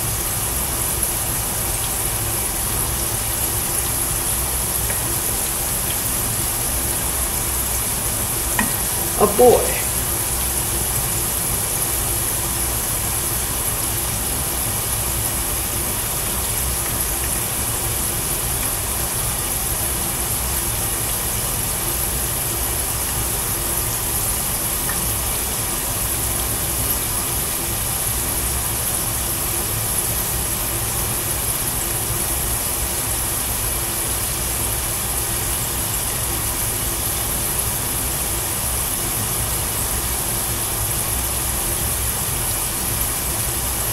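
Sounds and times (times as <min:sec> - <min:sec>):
oil sizzling in a pan: 0:00.1 - 0:43.9.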